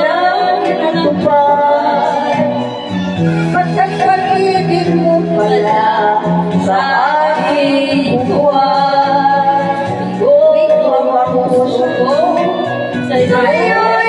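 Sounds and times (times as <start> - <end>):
backing track music: 0.0 - 14.0
women singing karaoke: 0.0 - 14.0.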